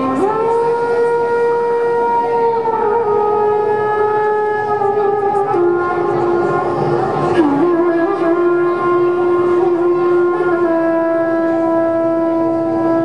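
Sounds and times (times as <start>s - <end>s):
sustained reedy music note: 0.0s - 13.0s.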